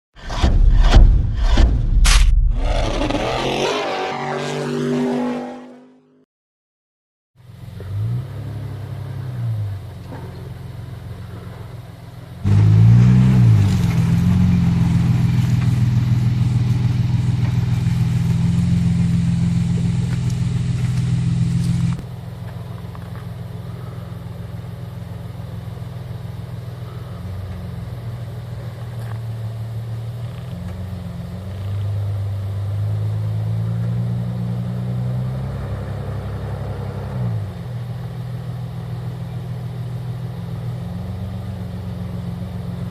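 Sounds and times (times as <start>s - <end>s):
petrol engine revving at low speed: 2.1s - 6.2s, 7.4s - 42.9s.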